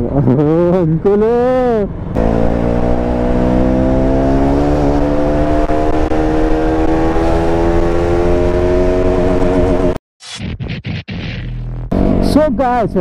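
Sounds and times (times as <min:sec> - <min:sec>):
motorcycle engine accelerating: 0:00.0 - 0:10.0, 0:11.0 - 0:12.6.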